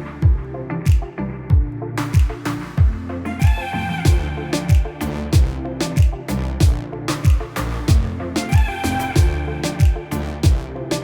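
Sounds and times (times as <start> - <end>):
kick drum: 0.2 - 10.7.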